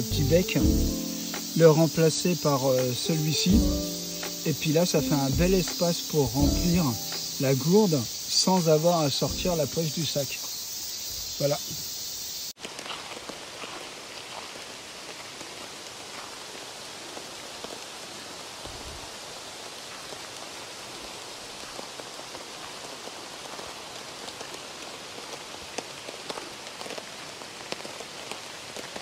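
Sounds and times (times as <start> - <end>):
rain pattering: 0.0 - 10.4, 12.6 - 29.0.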